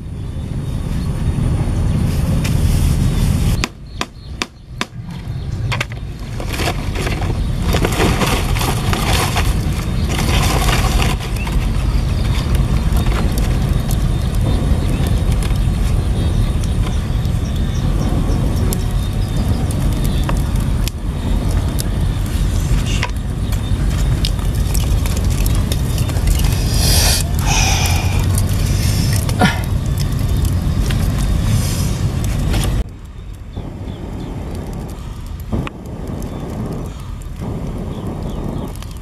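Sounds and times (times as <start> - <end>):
fire crackling and rustling: 0.0 - 39.0
wind rumble on microphone: 0.0 - 39.0.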